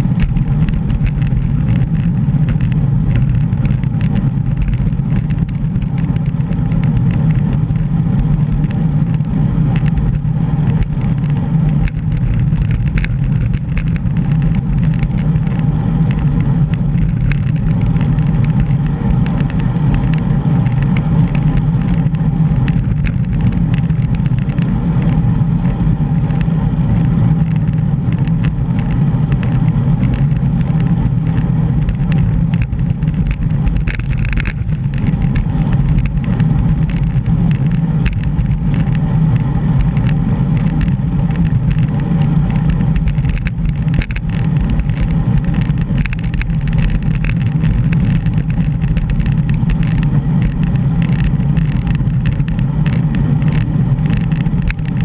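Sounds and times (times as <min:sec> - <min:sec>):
small rattles and clicks: 0:00.0 - 0:55.0
wind and road rumble: 0:00.0 - 0:55.0.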